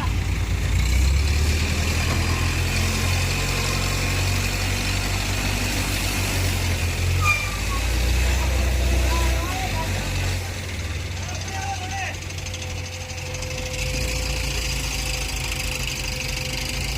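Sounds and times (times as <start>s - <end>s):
heavy diesel engine running: 0.0s - 16.9s.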